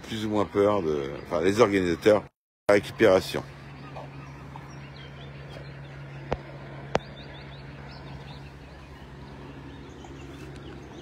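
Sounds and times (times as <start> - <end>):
helicopter humming overhead: 0.0 - 11.0
small birds chirping: 0.0 - 11.0.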